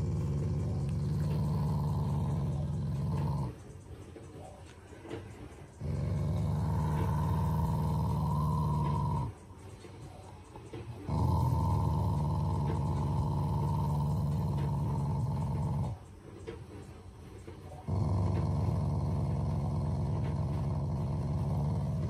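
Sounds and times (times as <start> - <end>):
dog growling: 0.0 - 22.0.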